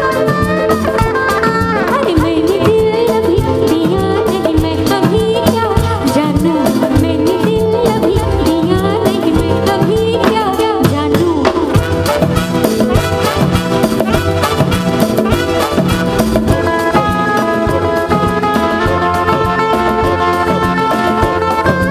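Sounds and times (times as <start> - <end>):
woman singing into a microphone: 0.0 - 12.0, 16.4 - 21.9
band with drum beat: 0.0 - 21.9.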